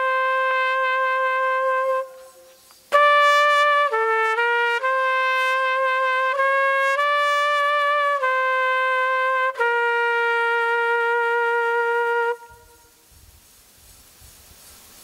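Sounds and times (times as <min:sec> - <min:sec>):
solo trumpet playing: 0:00.0 - 0:13.0.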